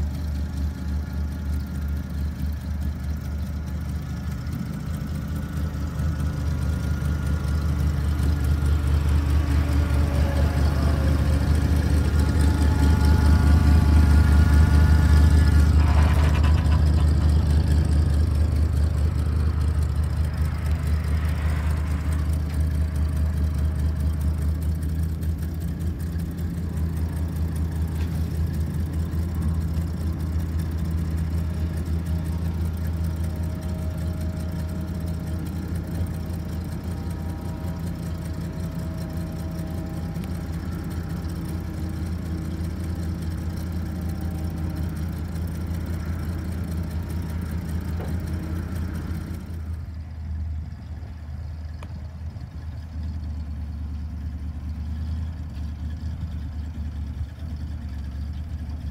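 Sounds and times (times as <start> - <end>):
truck engine idling: 0.0 - 58.9.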